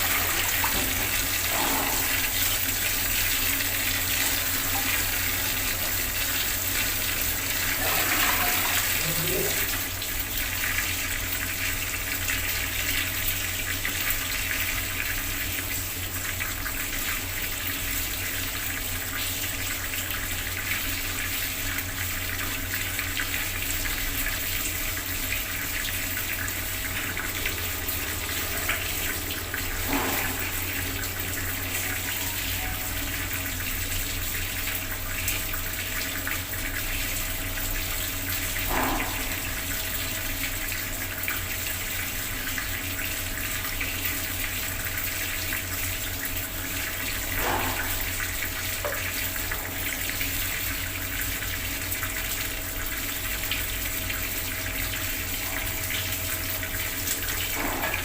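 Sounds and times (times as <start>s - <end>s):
tap water splashing into basin: 0.0s - 58.0s.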